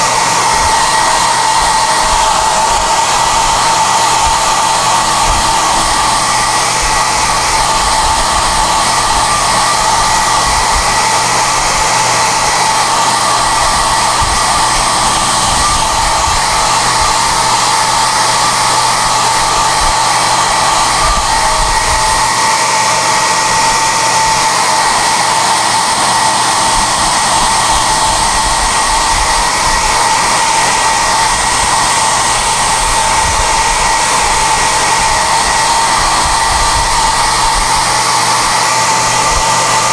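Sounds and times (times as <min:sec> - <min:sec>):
hair dryer air rushing: 0:00.0 - 0:39.9
hair dryer motor whine: 0:00.0 - 0:39.9.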